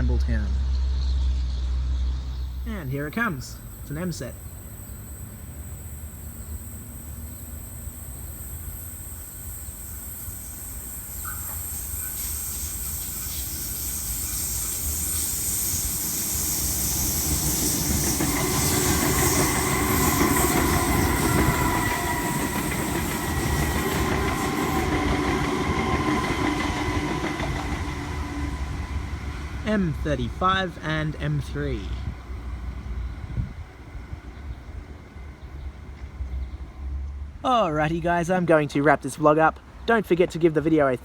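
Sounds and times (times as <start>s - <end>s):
electric train passing: 0.1s - 41.0s
train whine: 1.8s - 38.0s.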